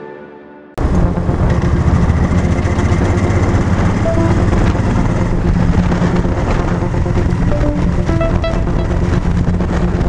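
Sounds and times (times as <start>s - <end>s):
motorcycle engine running: 0.8s - 10.0s
road and wind noise: 0.8s - 10.0s.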